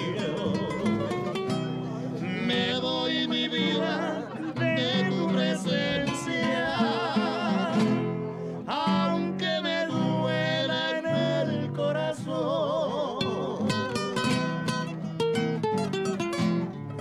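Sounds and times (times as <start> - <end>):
person singing with vibrato: 0.0 - 1.2, 2.0 - 14.6
plucked guitar: 0.0 - 17.0.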